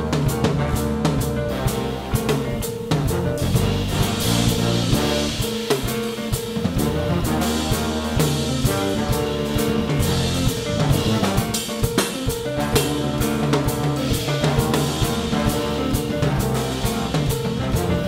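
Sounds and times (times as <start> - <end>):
drum kit beat: 0.0 - 18.0
electric bass line: 0.0 - 18.0.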